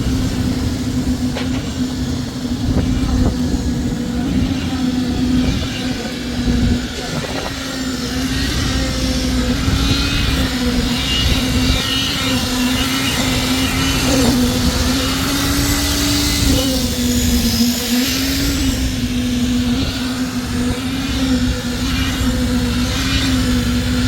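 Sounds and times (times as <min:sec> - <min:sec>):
machine motor humming: 0:00.0 - 0:24.0.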